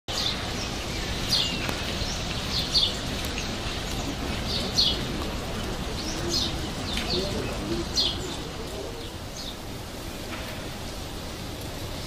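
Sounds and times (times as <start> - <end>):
birds chirping: 0.1 - 11.2.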